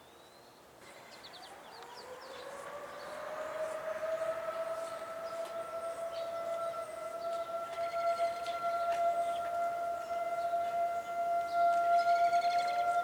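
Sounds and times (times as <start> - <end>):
warning siren wailing: 1.6 - 13.0.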